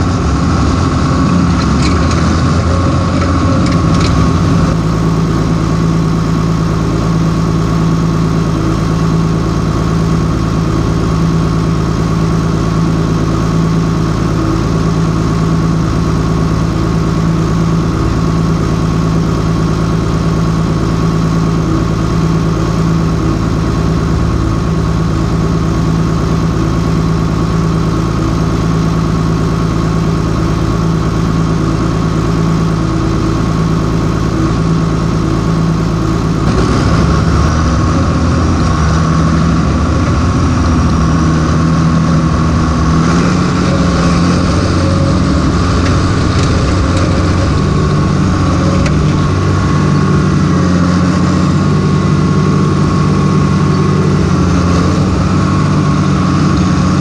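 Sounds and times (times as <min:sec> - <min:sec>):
tractor engine idling: 0:00.0 - 0:57.0.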